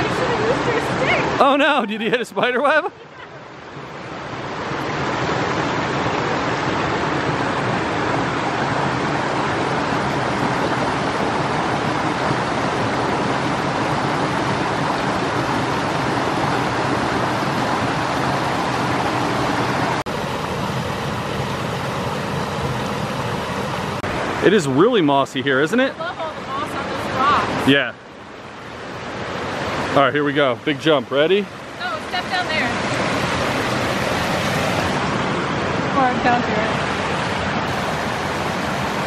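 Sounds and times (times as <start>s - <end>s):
water rushing over rocks: 0.0s - 39.0s.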